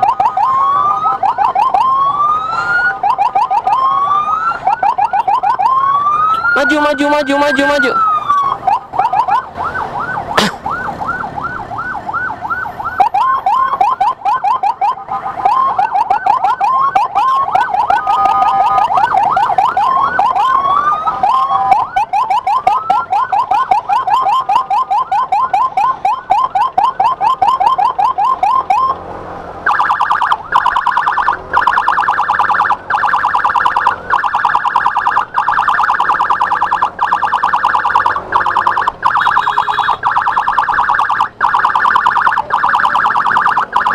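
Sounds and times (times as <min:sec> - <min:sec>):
electronic siren yelping: 0:00.0 - 0:43.9.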